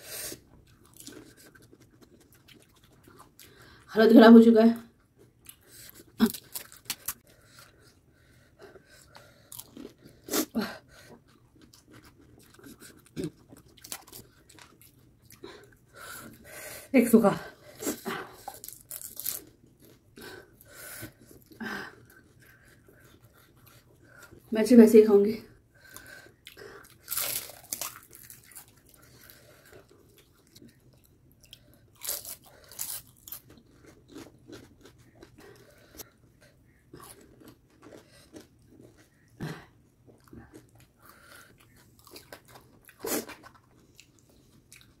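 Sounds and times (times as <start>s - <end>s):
crunching and chewing: 0.4s - 3.9s, 4.9s - 16.4s, 17.8s - 24.5s, 25.8s - 45.0s.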